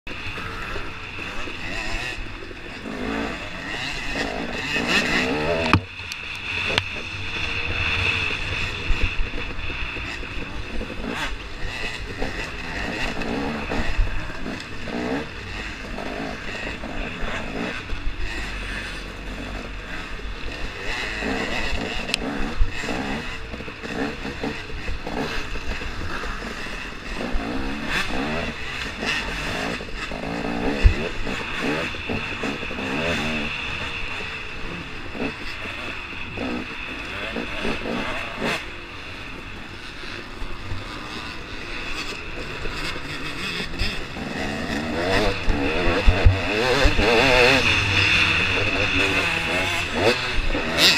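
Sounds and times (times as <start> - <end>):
dirt bike engine revving: 0.1 - 50.9.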